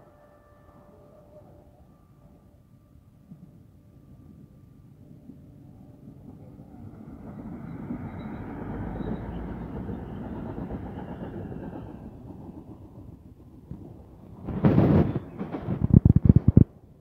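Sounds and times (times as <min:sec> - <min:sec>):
train passing rumble: 0:00.0 - 0:17.0.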